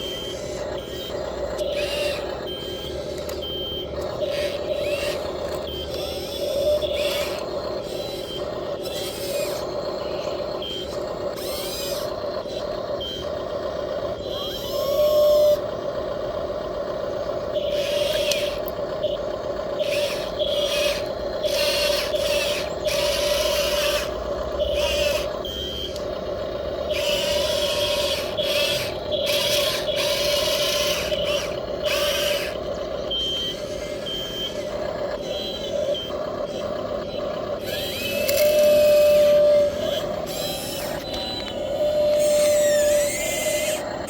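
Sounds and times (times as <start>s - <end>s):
small electric motors whining: 0.0s - 44.0s.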